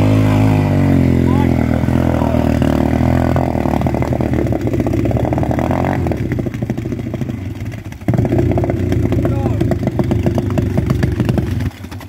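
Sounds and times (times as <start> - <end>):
motorbike engine struggling in water: 0.0 - 12.0.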